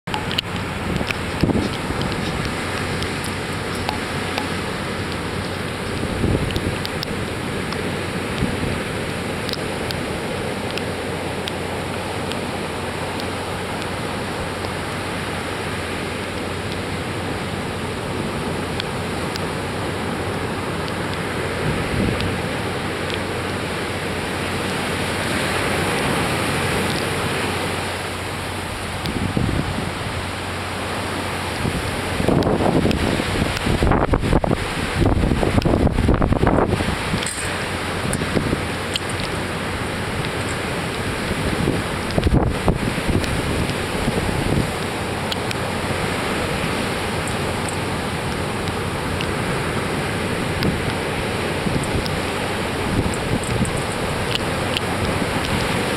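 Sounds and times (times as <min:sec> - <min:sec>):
waves breaking: 0:00.0 - 0:55.9
wind buffeting microphone: 0:00.1 - 0:10.1, 0:16.5 - 0:23.6, 0:25.0 - 0:55.9.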